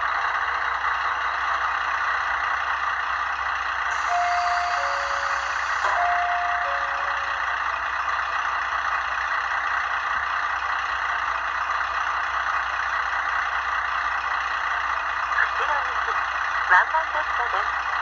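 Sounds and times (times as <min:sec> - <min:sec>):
diesel railcar engine idling: 0:00.0 - 0:18.0.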